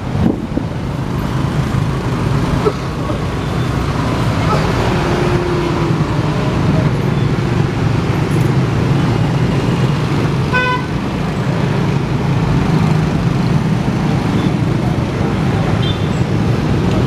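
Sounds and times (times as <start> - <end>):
heavy vehicles rumbling: 0.0 - 17.0.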